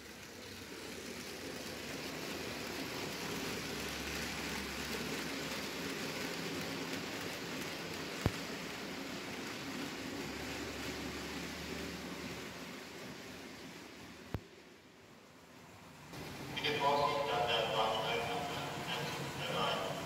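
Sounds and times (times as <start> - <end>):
model train wheels rattling on rails: 0.0 - 14.4, 16.6 - 20.0.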